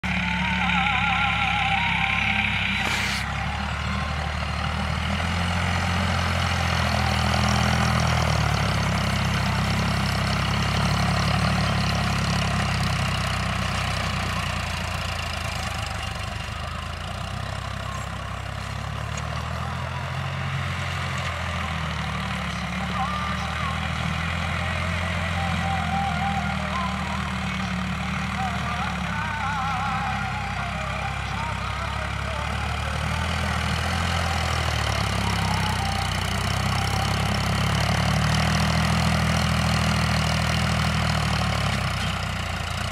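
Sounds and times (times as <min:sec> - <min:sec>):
diesel tractor engine under load: 0:00.0 - 0:42.9.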